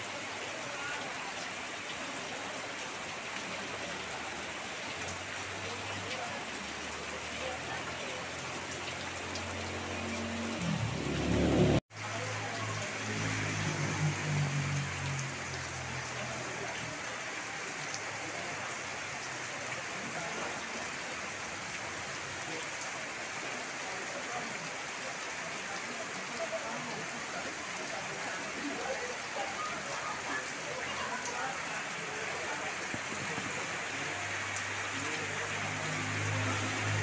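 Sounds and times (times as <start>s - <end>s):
heavy rain pattering: 0.0s - 37.0s.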